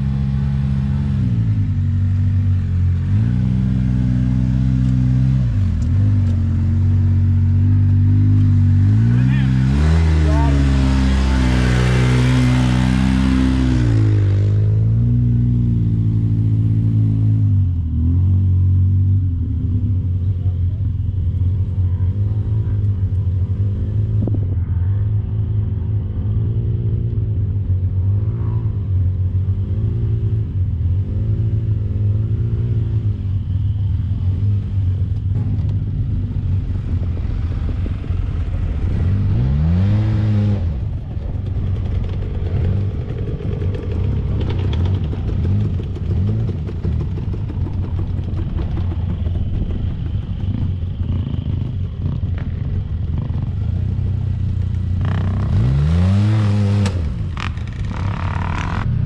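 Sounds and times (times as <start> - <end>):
engine revving: 0.0 - 20.3, 21.6 - 59.0
utility vehicle engine climbing: 0.0 - 59.0.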